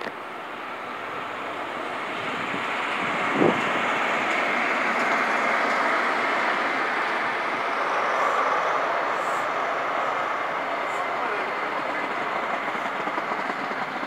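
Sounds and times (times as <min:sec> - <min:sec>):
diesel train running slowly: 0:00.0 - 0:14.0.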